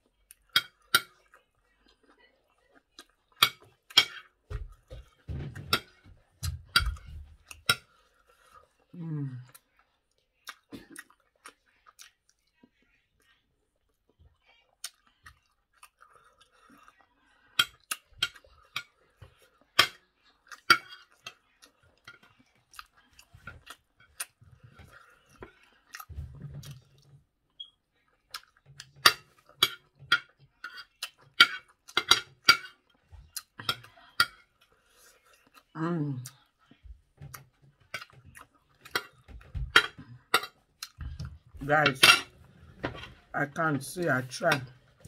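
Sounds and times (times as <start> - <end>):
person chewing food: 0.0 - 43.4.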